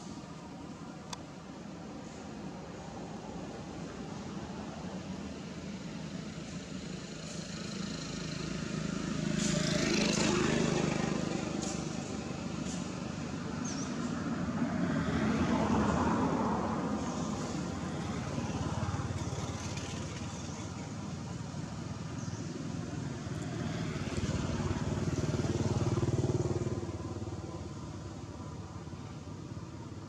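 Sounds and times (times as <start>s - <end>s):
vehicle engines passing: 0.0s - 30.0s.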